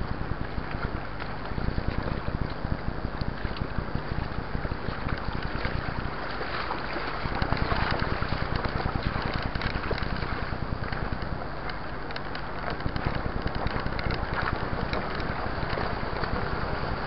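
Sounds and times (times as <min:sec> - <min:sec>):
bike splashing through water: 0:00.0 - 0:17.0
wind buffeting microphone: 0:00.0 - 0:17.0.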